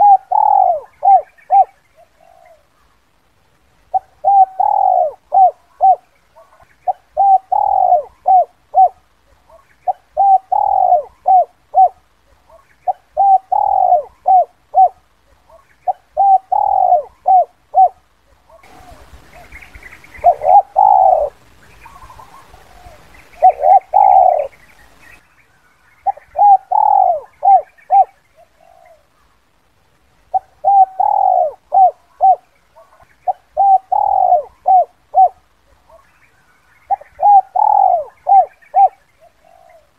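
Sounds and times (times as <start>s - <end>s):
dove cooing: 0.0s - 2.9s, 3.9s - 25.0s, 26.0s - 29.3s, 30.3s - 36.1s, 36.9s - 39.9s
faint hiss: 0.0s - 39.9s.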